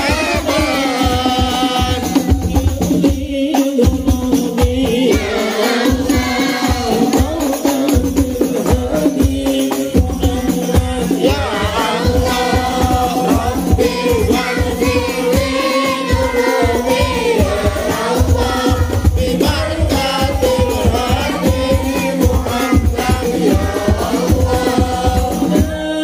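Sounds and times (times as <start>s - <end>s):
congregation singing together: 0.0s - 26.0s
hand drums beating: 0.0s - 26.0s.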